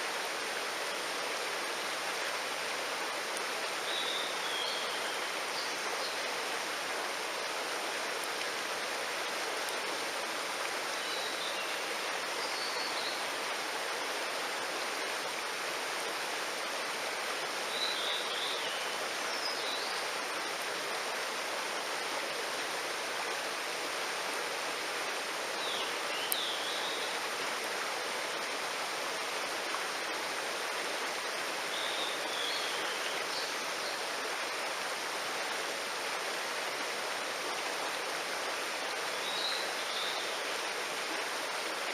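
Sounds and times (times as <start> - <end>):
mountain stream rushing: 0.0 - 41.9.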